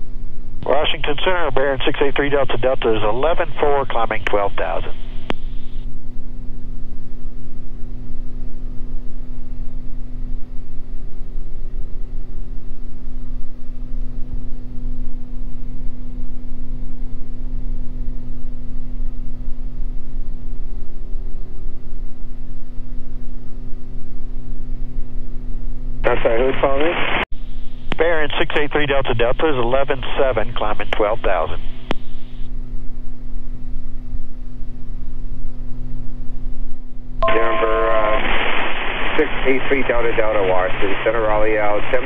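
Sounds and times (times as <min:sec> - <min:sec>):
propeller plane engines droning: 0:00.0 - 0:42.0.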